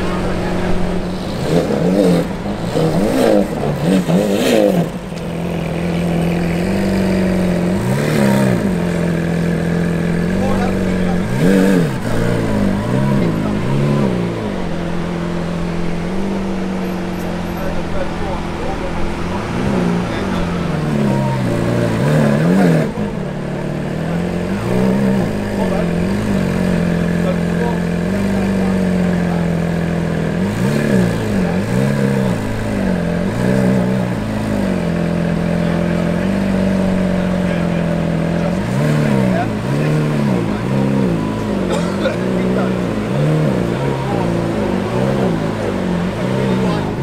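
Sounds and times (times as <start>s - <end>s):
sports car engine revving: 0.0s - 47.0s.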